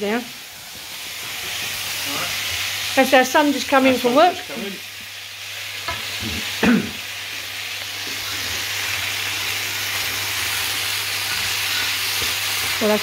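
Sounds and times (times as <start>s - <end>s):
chicken frying in a pan: 0.0s - 13.0s.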